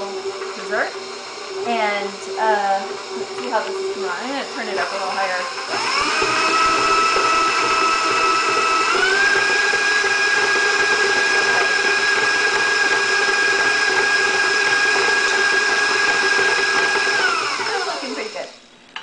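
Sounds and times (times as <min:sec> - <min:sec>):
stand mixer motor whine: 0:00.0 - 0:19.0.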